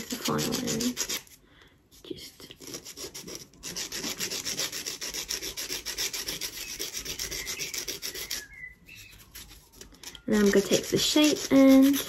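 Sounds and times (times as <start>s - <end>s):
nail file rasping: 0.0s - 1.4s, 2.5s - 8.5s, 9.1s - 12.0s.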